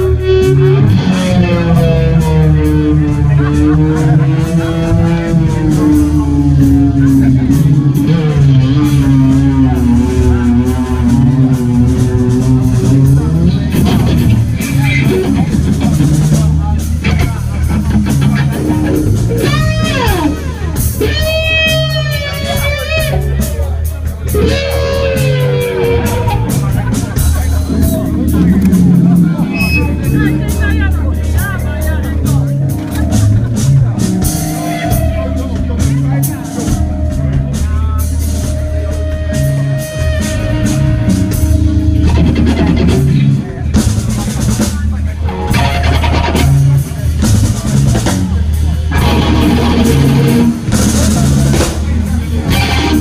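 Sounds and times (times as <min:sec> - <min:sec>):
bass line: 0:00.0 - 0:53.0
electric guitar lead: 0:00.0 - 0:53.0
rock band playing: 0:00.0 - 0:53.0.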